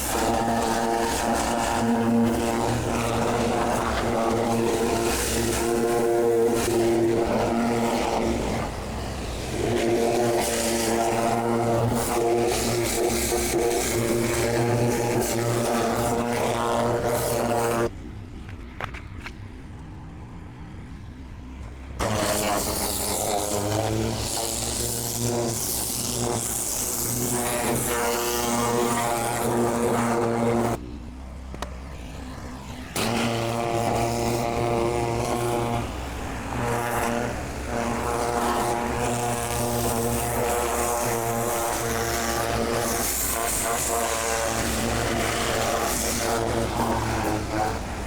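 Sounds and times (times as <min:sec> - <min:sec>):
pressure washer engine running: 0:00.0 - 0:17.9, 0:22.0 - 0:30.8, 0:32.6 - 0:48.0.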